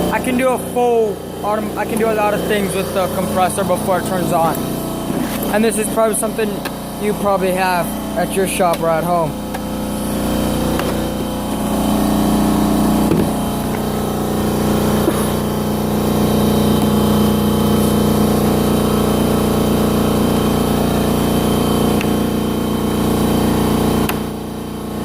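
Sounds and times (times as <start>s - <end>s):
electric air compressor running: 0.0s - 25.0s.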